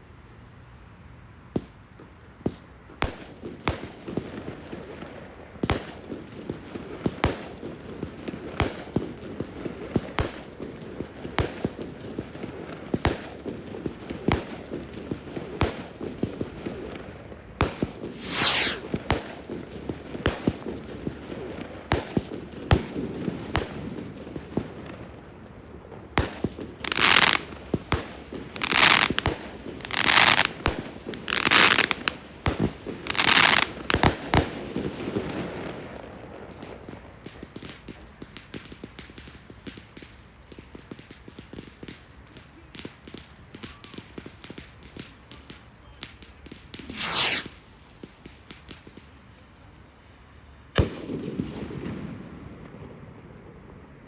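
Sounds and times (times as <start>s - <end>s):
firework crackling: 0.0s - 54.0s
firework bangs: 1.5s - 49.1s, 50.7s - 53.8s.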